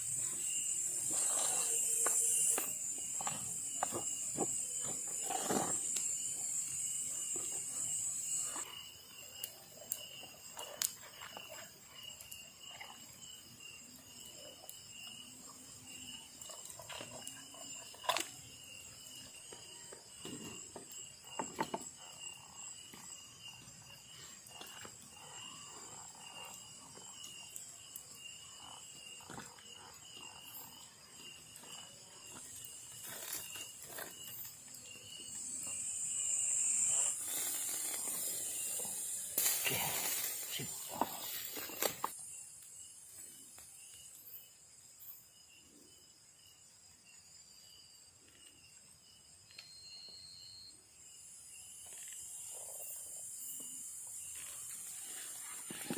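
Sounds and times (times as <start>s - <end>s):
high-pitched insect buzz: 0.0s - 45.2s
insects pulsing trill: 0.0s - 55.9s.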